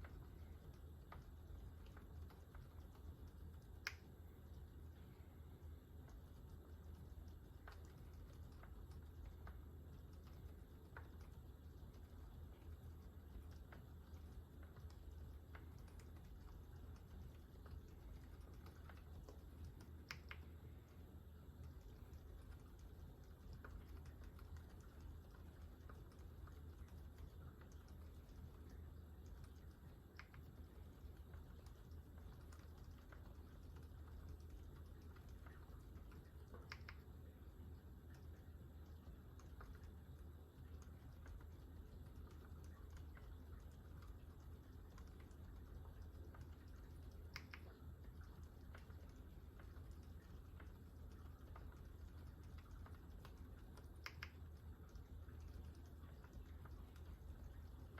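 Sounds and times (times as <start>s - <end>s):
low steady hum: 0.0s - 57.9s
soft mechanical keyboard typing: 0.0s - 57.9s.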